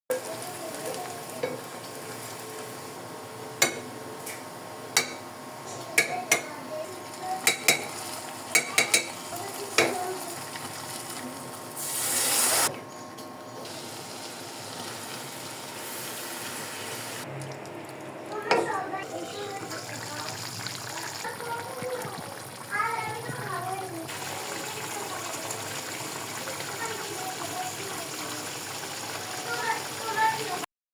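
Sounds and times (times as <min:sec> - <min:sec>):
curry sizzling in a pan: 0:00.1 - 0:03.1, 0:06.7 - 0:12.7, 0:13.6 - 0:17.2, 0:18.3 - 0:30.7.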